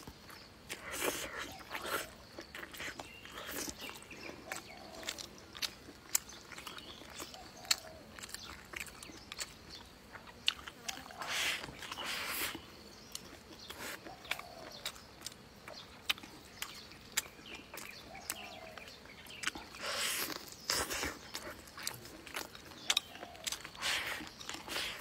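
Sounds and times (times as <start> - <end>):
person chewing with wet clicks: 0.0 - 25.0.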